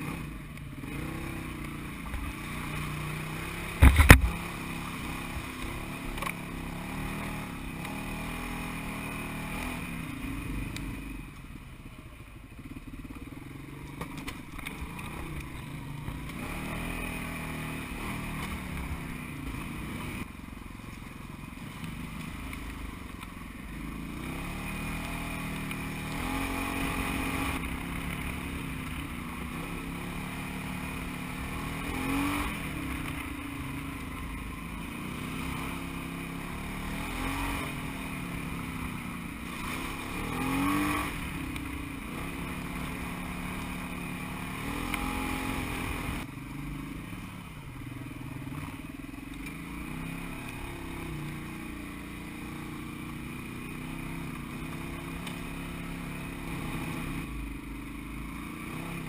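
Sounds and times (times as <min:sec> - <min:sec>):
utility vehicle engine revving: 0:00.0 - 0:11.2, 0:12.6 - 0:47.3, 0:48.4 - 0:59.0.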